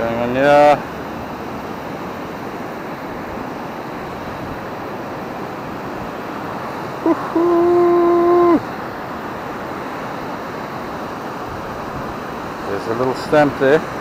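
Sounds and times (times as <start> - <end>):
surf: 0.0 - 14.0
wind: 0.0 - 14.0.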